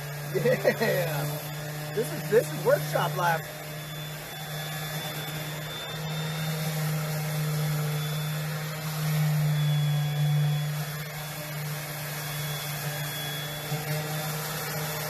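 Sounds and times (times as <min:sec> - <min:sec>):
electric sander on wood: 0:00.0 - 0:15.0.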